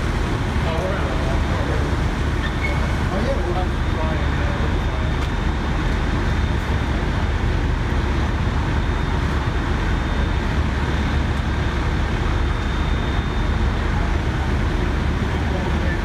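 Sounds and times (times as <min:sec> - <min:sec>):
diesel engines rumbling: 0:00.0 - 0:16.0.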